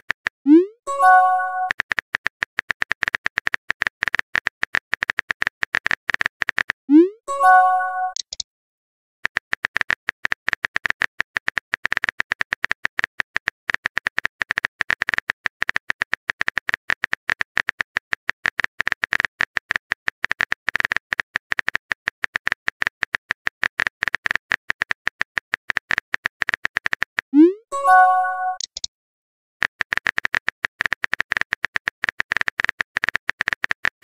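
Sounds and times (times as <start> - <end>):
phone keyboard typing clicks: 1.0 - 6.8, 7.7 - 8.4, 9.2 - 28.9, 29.6 - 34.0.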